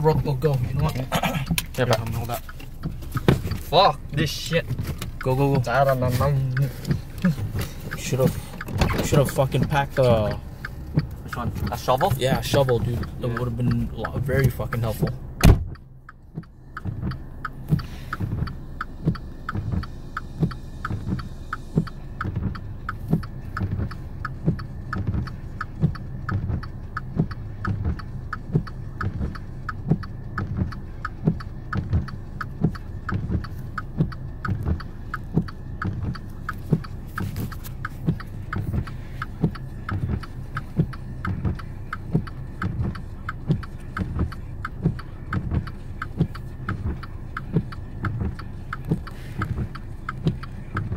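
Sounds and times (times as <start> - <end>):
car engine running: 0.0 - 50.9
regular ticking or thumping: 0.0 - 50.9.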